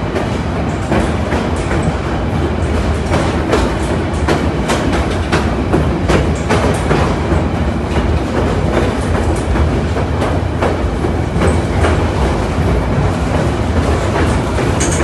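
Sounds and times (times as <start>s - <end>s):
train rumbling along track: 0.0s - 15.0s
wheels clacking over rails: 0.0s - 15.0s.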